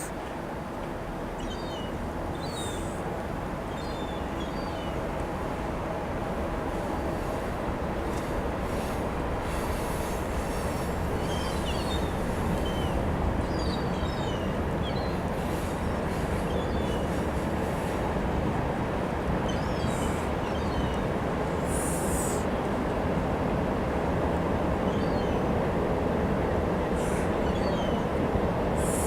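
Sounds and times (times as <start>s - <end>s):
steady rushing background noise: 0.0s - 29.0s.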